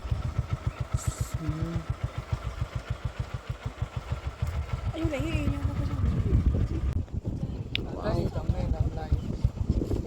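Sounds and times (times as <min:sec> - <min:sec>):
engine chugging: 0:00.0 - 0:10.0.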